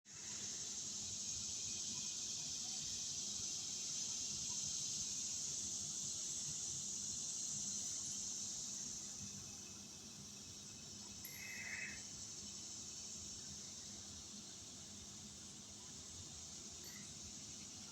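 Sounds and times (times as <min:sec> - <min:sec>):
shrill insect chorus: 0:00.2 - 0:15.2.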